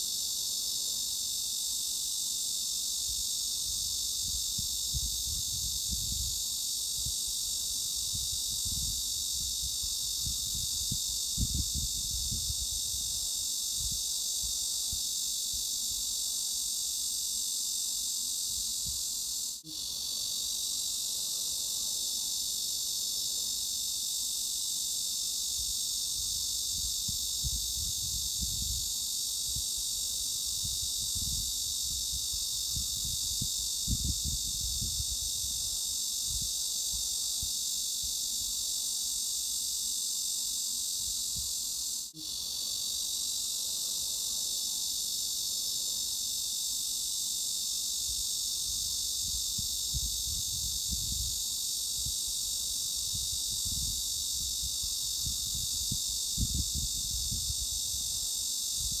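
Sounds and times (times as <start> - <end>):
cicadas buzzing chorus: 0.0 - 59.0.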